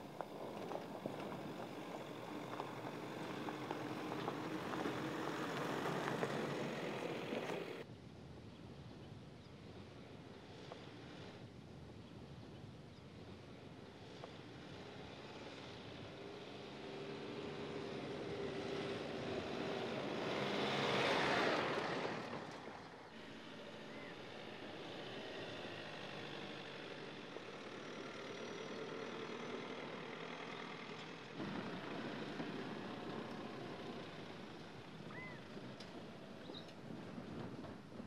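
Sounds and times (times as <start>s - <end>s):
diesel truck engine running: 0.0s - 7.8s, 14.3s - 38.0s
tyre and road noise: 0.0s - 7.9s, 9.7s - 38.0s.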